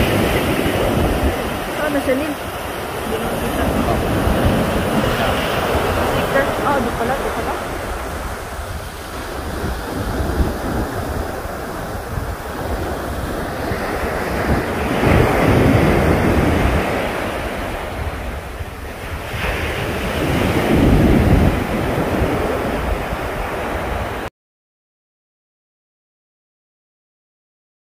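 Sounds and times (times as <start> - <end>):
sea waves washing and splashing: 0.0 - 24.3
wind buffeting microphone: 0.0 - 24.3.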